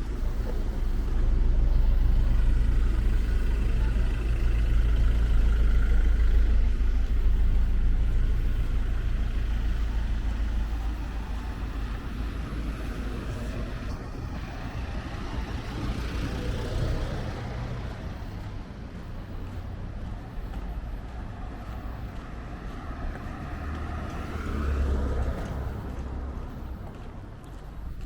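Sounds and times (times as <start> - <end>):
vehicle engine and tyre rumble: 0.0 - 28.0.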